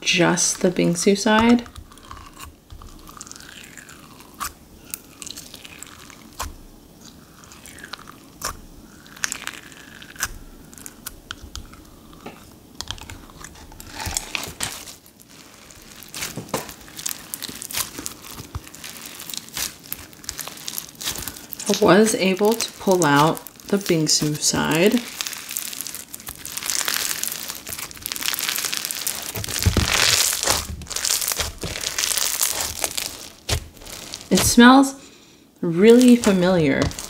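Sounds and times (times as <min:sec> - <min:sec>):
slime crackling and crunching: 0:00.0 - 0:37.0.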